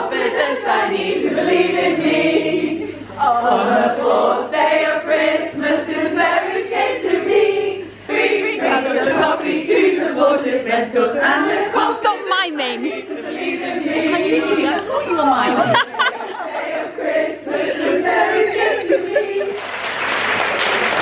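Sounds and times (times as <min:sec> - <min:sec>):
group singing together: 0:00.0 - 0:21.0.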